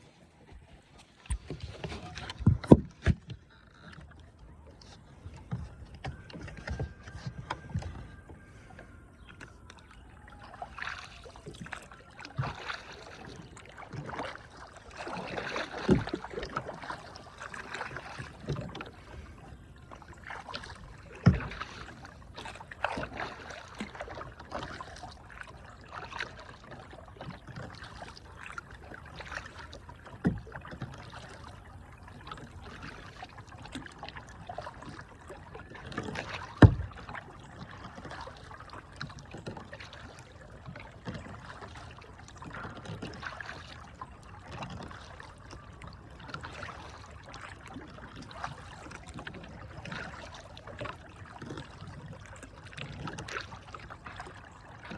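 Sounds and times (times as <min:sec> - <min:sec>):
paddle splashing through water: 0:00.0 - 0:54.9.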